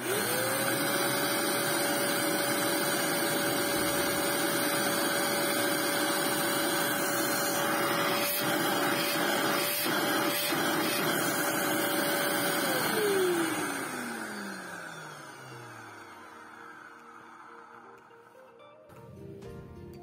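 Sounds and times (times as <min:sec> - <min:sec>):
vacuum cleaner motor whining: 0:00.0 - 0:18.8.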